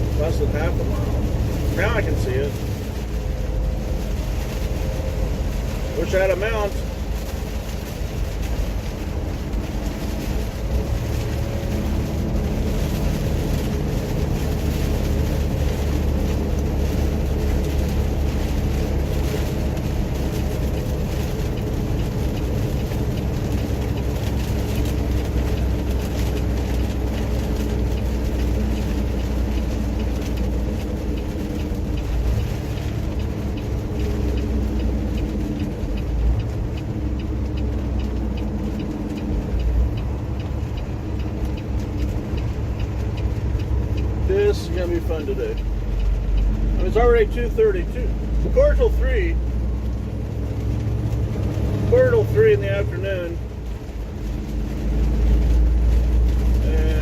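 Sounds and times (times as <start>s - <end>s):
truck engine drone: 0.0s - 57.0s
tyre and road noise: 0.0s - 57.0s.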